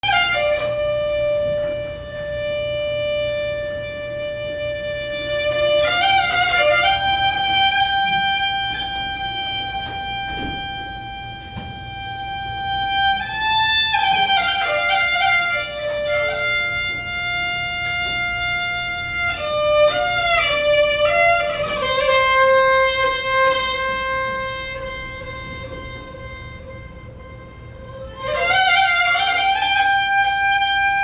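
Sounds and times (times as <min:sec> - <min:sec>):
bowed string instrument: 0:00.0 - 0:31.0.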